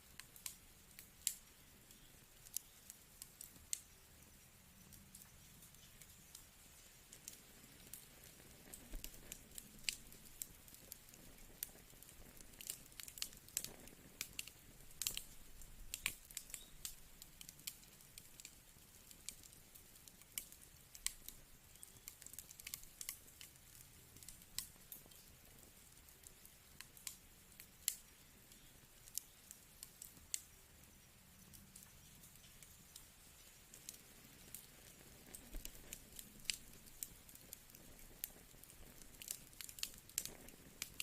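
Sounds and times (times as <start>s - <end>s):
soft hiss: 0.0s - 41.0s
wood fire crackling: 0.0s - 41.0s.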